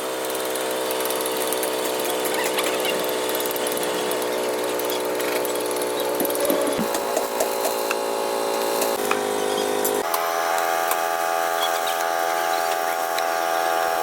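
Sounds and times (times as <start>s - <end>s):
machine motor humming: 0.1s - 14.0s.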